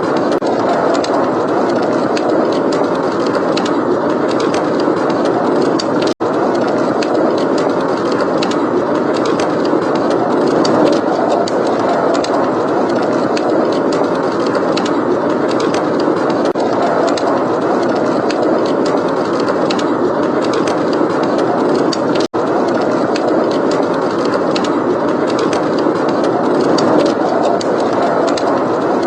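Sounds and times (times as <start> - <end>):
fireplace crackling and popping: 0.0 - 29.0
wind blowing: 0.0 - 29.0.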